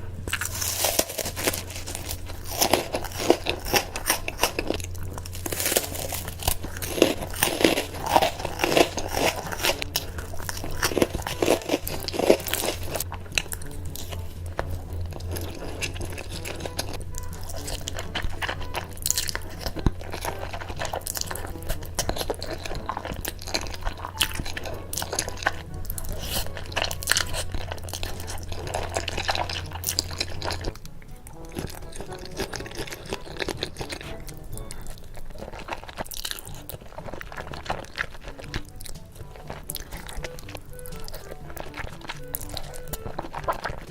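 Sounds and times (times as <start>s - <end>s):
chewing and crunching food: 0.0s - 43.9s
low steady hum: 0.0s - 43.9s.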